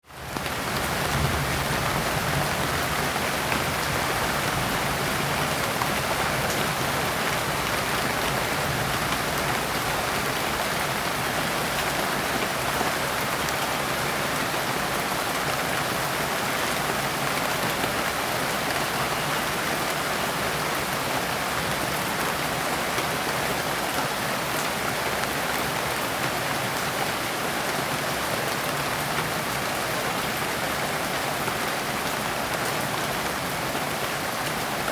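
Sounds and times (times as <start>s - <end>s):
rain falling on leaves: 0.0s - 34.9s.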